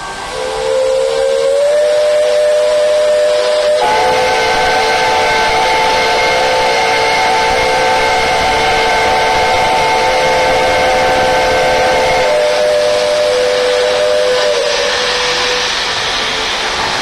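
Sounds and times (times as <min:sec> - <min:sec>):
hiss of steam: 0:00.0 - 0:17.0
steam locomotive whistles blowing: 0:00.0 - 0:17.0.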